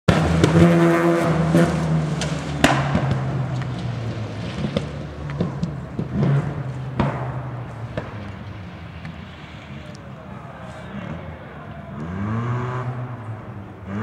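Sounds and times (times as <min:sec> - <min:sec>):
race car engine passing by: 0:00.1 - 0:14.0.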